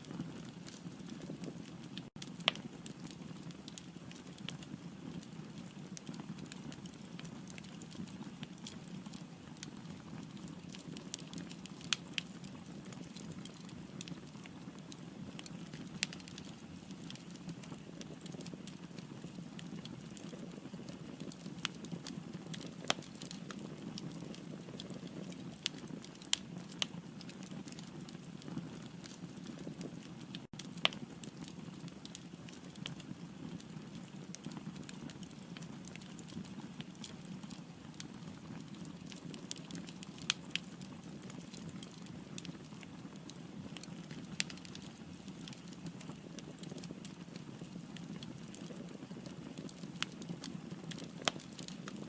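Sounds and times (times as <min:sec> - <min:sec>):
fire pops and crackles: 0:00.0 - 0:52.0
low rumble of flame: 0:00.0 - 0:52.0.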